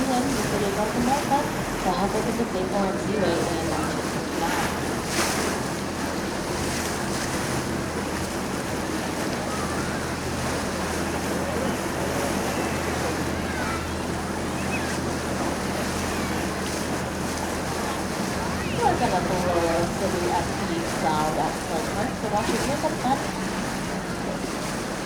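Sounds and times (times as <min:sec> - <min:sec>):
boat engine droning: 0:00.0 - 0:25.0
water rushing along hull: 0:00.0 - 0:25.0
wind buffeting microphone: 0:00.0 - 0:25.0.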